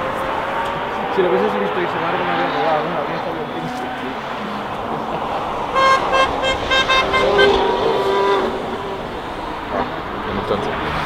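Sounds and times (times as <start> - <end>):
distant racing car engine: 0.0 - 11.0.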